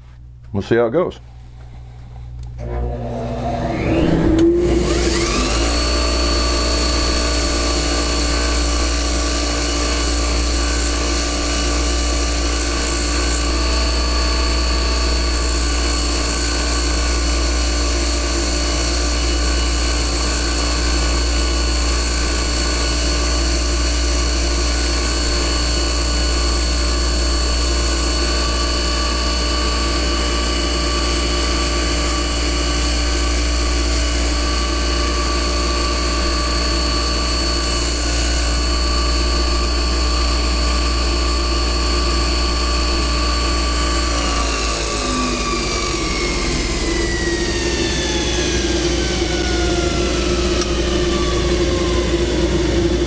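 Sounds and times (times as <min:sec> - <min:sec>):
ventilation fan drone: 0:00.0 - 0:53.0
belt grinder whine: 0:02.6 - 0:53.0.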